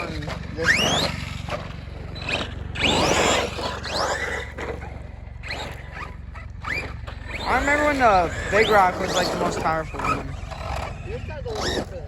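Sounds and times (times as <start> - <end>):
electric motors whining: 0.0 - 12.0
tyres rushing on loose dirt: 0.0 - 12.0.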